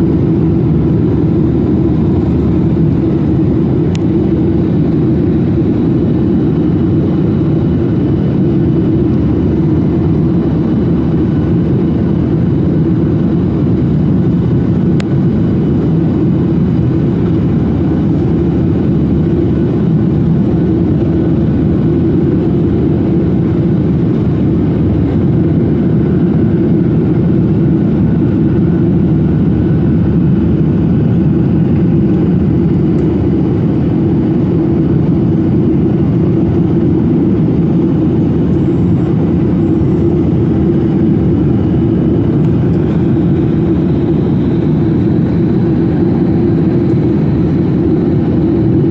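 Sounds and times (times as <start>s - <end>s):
jet airliner cabin noise: 0.0s - 48.9s.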